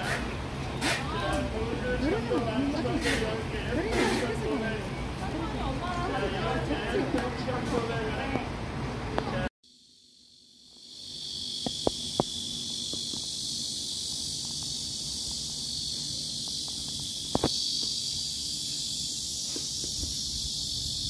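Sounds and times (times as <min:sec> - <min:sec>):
cicadas buzzing: 0:00.0 - 0:08.2, 0:09.6 - 0:21.0.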